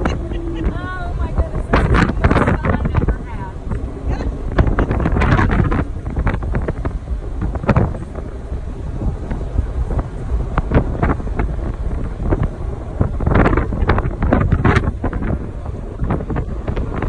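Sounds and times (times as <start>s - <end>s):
car engine rumbling: 0.0s - 17.0s
wind buffeting microphone: 0.0s - 17.0s.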